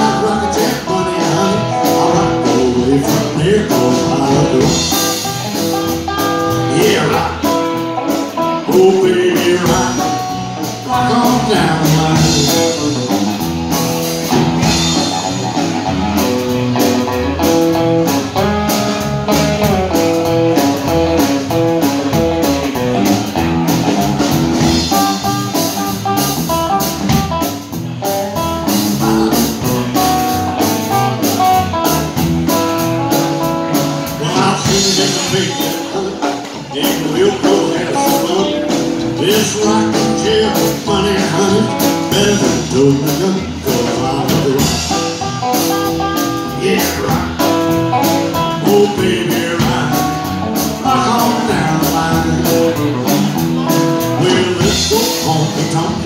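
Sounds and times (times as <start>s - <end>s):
blues band playing: 0.0s - 56.0s
picked guitar notes: 0.0s - 56.0s
drum beat and cymbals: 9.7s - 56.0s.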